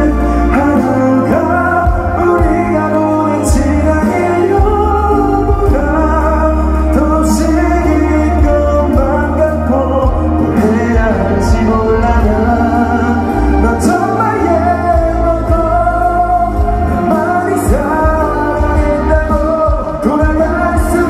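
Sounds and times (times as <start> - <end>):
band backing music: 0.0 - 21.0
person singing: 0.0 - 21.0.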